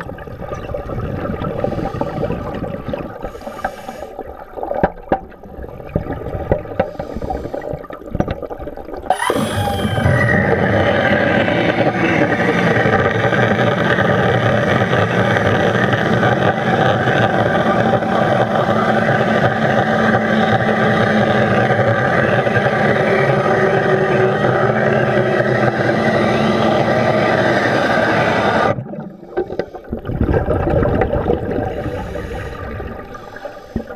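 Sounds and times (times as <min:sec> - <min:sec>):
uneven water sound: 0:00.0 - 0:33.9.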